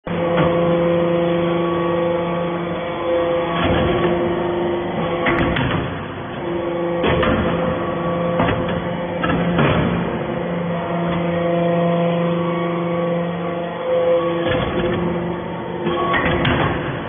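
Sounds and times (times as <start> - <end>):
hydraulic power unit hum: 0.0 - 17.0.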